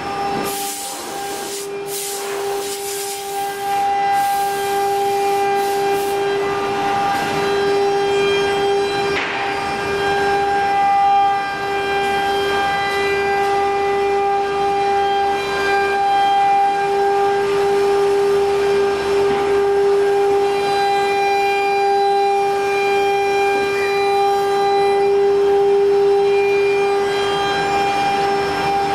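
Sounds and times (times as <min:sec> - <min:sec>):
wood router steady whine: 0:00.0 - 0:28.9.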